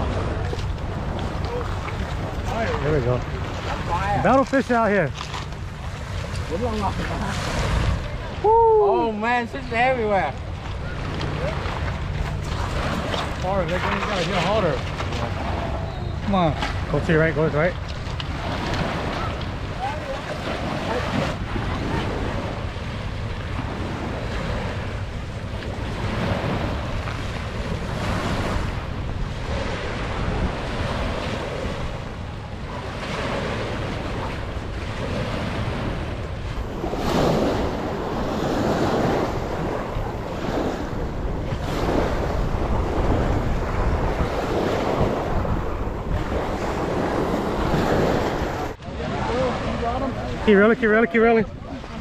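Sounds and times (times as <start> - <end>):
waves washing onto pebbles: 0.0 - 8.2, 9.8 - 32.1, 32.7 - 50.6
wind buffeting microphone: 0.0 - 52.0.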